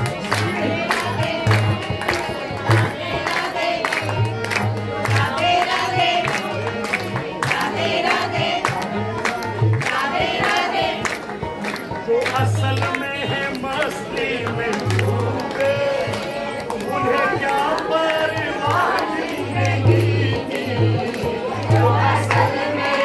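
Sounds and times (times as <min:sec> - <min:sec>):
voices singing devotional song: 0:00.0 - 0:23.0.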